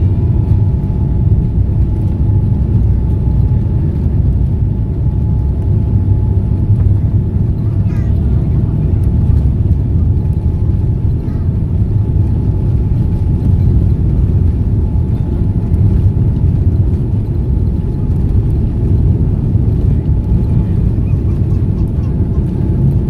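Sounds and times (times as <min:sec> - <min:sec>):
jet engine rumble: 0:00.0 - 0:23.0
jet engine whine: 0:00.0 - 0:23.0.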